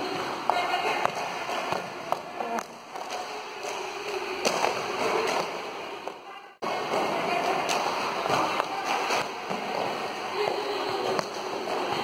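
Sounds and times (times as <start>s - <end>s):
skates clacking on floor: 0.0s - 6.2s, 6.8s - 12.0s.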